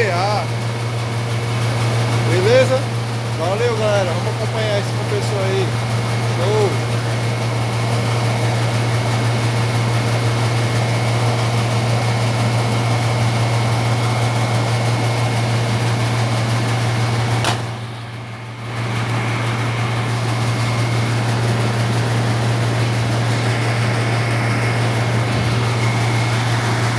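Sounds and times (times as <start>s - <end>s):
compressor humming with faint whine: 0.0s - 26.9s.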